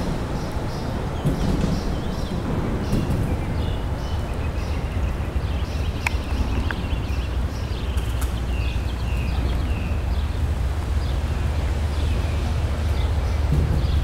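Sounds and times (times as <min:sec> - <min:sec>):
locomotive engine rumble: 0:00.0 - 0:14.0.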